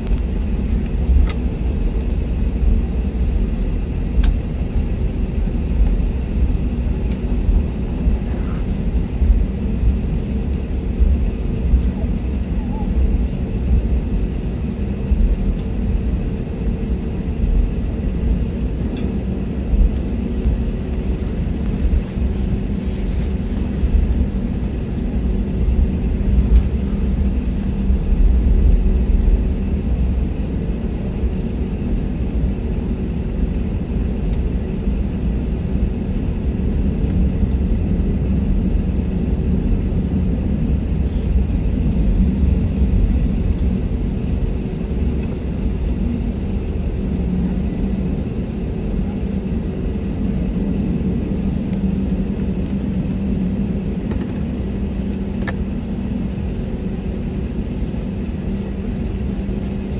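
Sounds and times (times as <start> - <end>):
engine and airflow rumble: 0.0 - 59.9
steady hum: 0.0 - 59.9.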